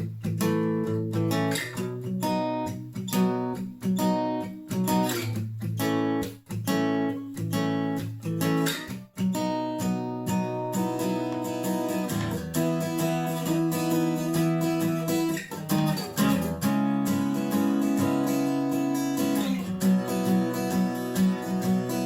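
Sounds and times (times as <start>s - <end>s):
acoustic guitar chords strummed: 0.0s - 22.0s.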